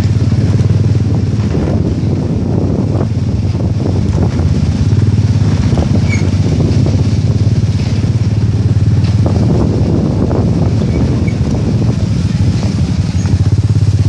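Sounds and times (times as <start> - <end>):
dune buggy engine running: 0.0 - 14.0.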